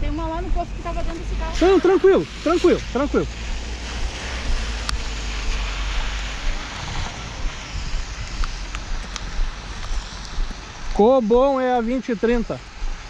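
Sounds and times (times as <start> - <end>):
wind rumbling on microphone: 0.0 - 13.0
rain hissing: 0.6 - 13.0.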